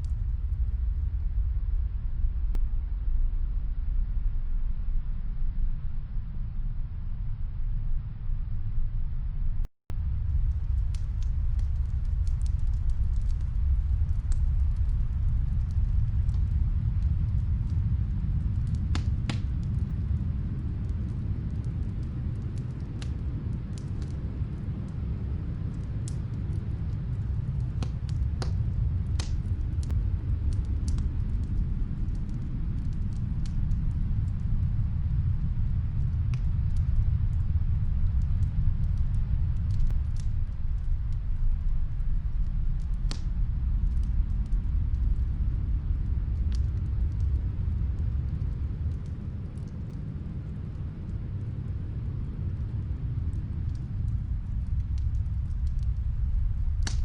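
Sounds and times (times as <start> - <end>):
snowstorm wind rumbling: 0.0 - 57.0
wood fire crackling: 10.0 - 57.0.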